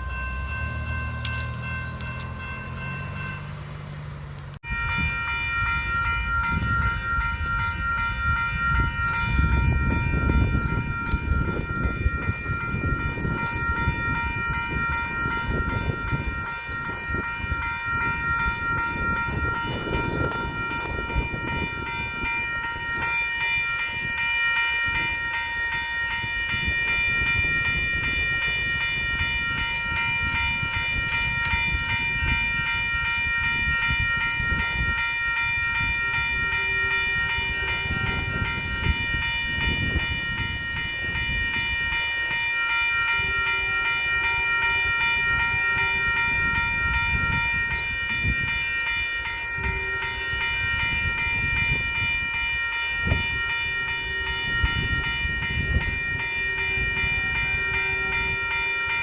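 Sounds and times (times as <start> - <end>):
high multi-tone ringing: 0.0 - 3.6, 4.6 - 59.0
train rumbling by: 0.0 - 59.0.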